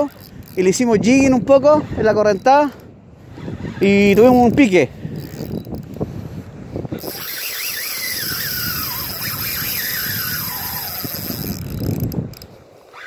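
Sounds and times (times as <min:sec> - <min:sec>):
fishing reel drag squealing: 0:00.0 - 0:05.9, 0:06.9 - 0:13.0.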